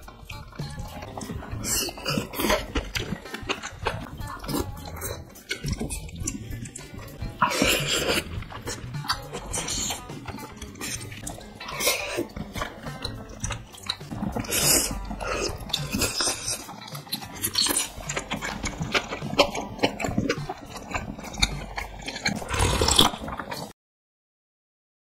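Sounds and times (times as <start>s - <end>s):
chewing: 0.0s - 23.7s
slurping noodles: 0.0s - 23.7s.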